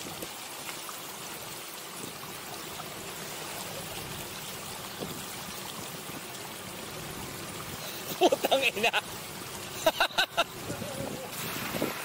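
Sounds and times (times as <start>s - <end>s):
sea water rushing and trickling: 0.0s - 12.0s.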